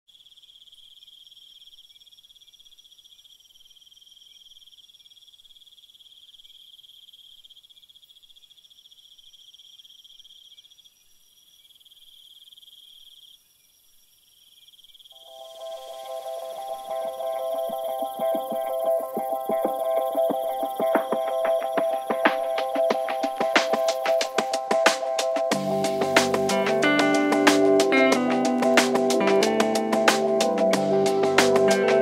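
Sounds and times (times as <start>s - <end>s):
insects trilling: 0.1s - 25.8s.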